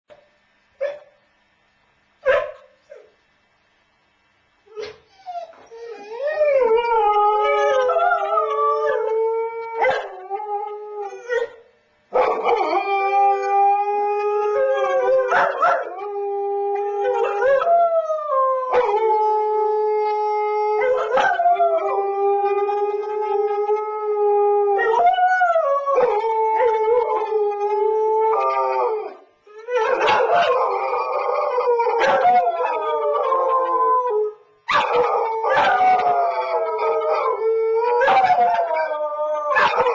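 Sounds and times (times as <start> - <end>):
dogs howling: 5.3 - 11.6, 12.2 - 39.9.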